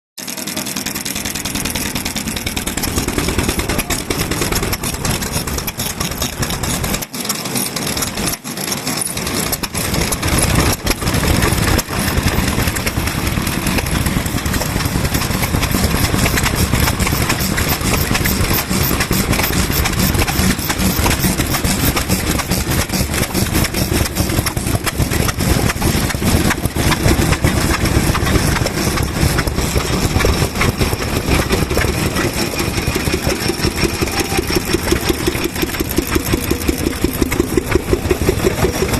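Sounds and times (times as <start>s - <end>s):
stationary engine running: 0.2s - 38.9s.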